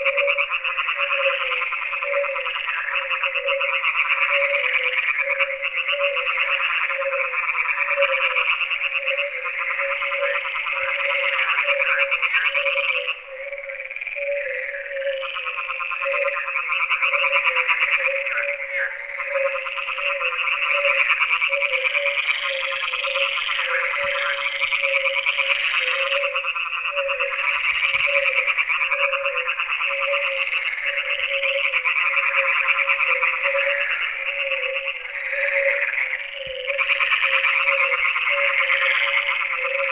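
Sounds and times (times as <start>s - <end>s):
frogs croaking in chorus: 0.0s - 39.9s
low steady pulsing frog call: 0.0s - 39.9s.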